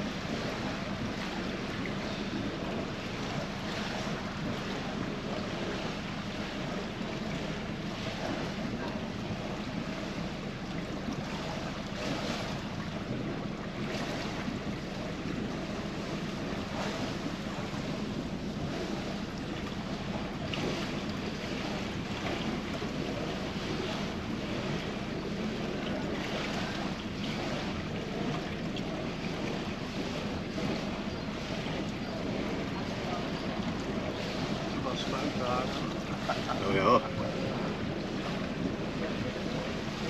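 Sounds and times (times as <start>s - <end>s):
boat engine hum: 0.0s - 40.0s
water rushing along hull: 0.0s - 40.0s.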